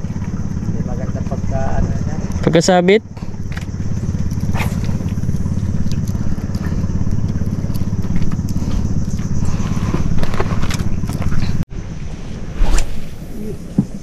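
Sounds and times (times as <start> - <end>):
small boat engine running: 0.0 - 11.7.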